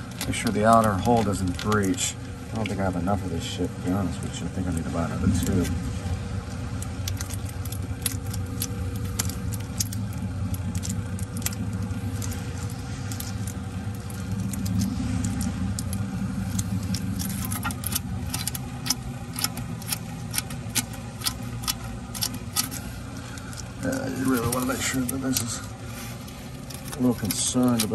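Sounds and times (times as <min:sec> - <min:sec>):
low steady rumble: 0:00.0 - 0:27.9.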